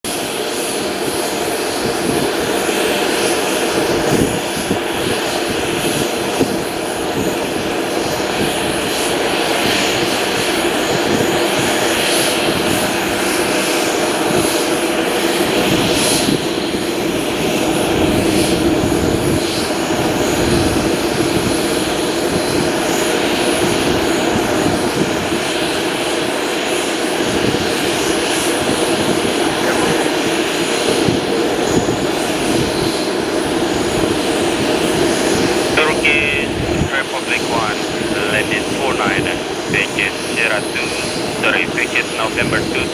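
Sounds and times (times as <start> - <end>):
airliner engines running: 0.1 - 42.9.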